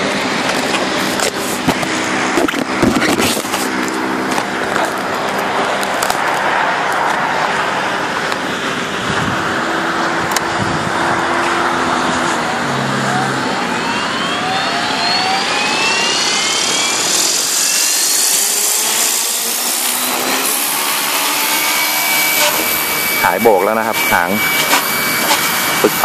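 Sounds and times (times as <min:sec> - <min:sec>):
motor and gear whine: 0:00.0 - 0:26.0
rotor rushing: 0:00.0 - 0:26.0.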